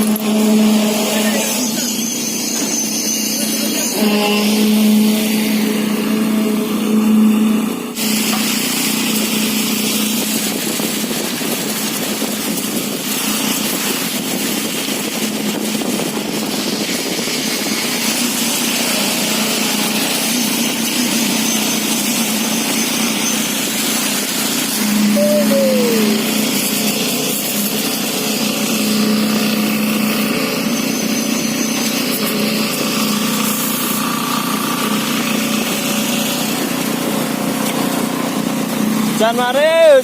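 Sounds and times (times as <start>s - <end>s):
wind: 0.0s - 40.0s.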